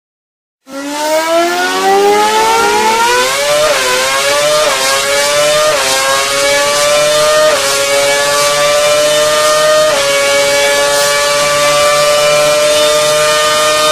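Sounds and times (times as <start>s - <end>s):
race car engine accelerating: 0.7s - 13.9s.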